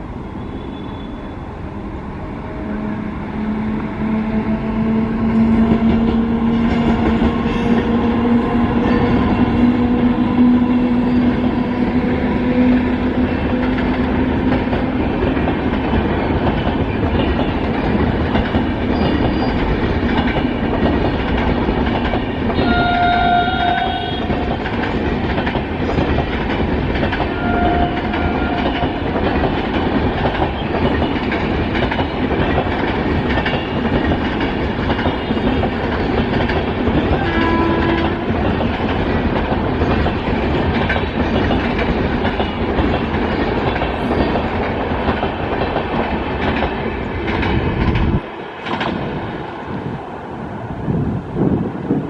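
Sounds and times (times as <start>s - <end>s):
train wheels rumbling on rails: 0.0s - 52.0s
wheels clacking over rail joints: 5.2s - 49.6s.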